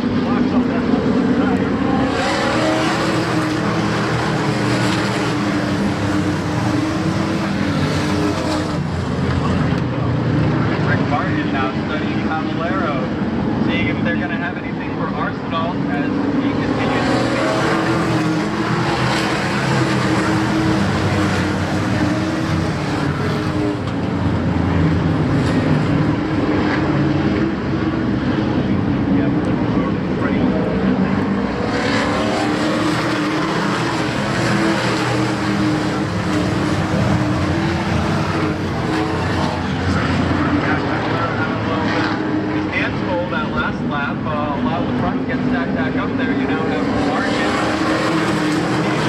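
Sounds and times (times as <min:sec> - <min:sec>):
race truck engines: 0:00.0 - 0:49.0.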